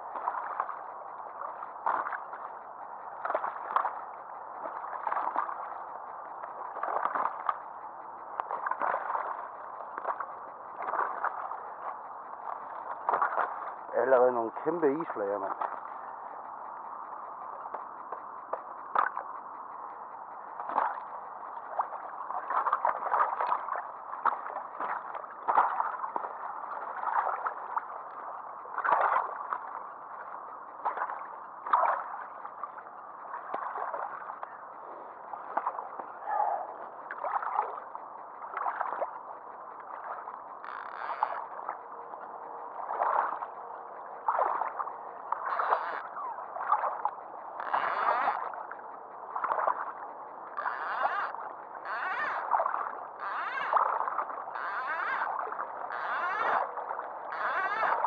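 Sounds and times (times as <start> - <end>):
water sloshing and lapping: 0.0 - 58.0.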